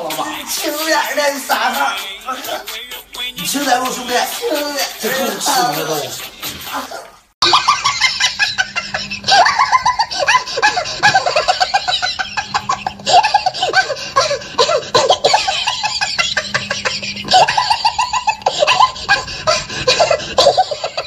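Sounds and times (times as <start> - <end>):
people laughing hard: 3.6 - 21.0.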